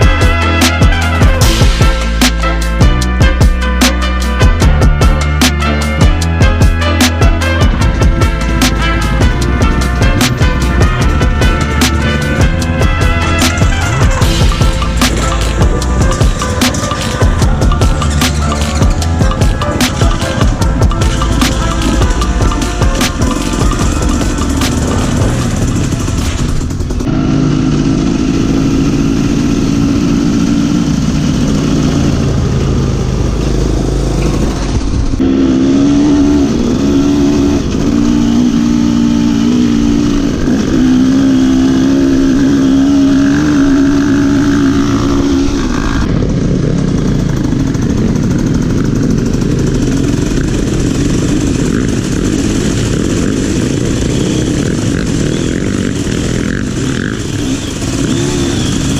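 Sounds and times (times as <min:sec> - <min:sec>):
motorcycle engine revving: 0:00.0 - 0:58.9
steady rushing noise: 0:07.1 - 0:58.9.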